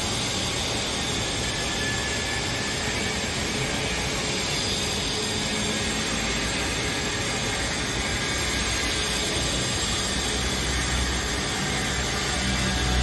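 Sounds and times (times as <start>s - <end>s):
hum of large hall: 0.0s - 13.0s.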